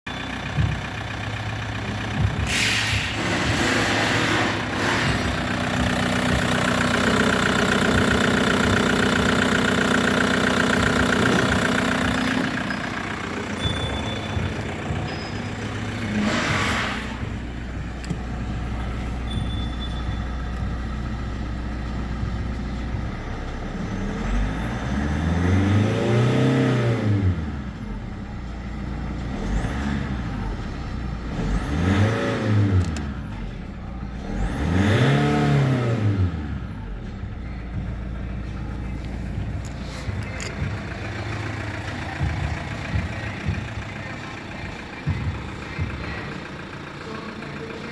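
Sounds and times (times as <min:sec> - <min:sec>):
diesel engine idling and revving: 0:00.0 - 0:47.9.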